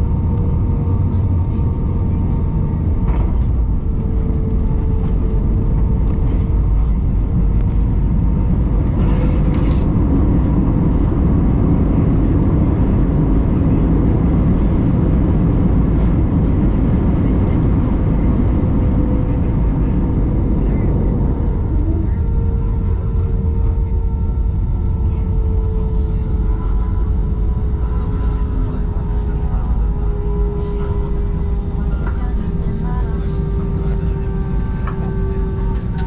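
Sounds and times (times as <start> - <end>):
airliner cabin engine rumble: 0.0 - 36.0.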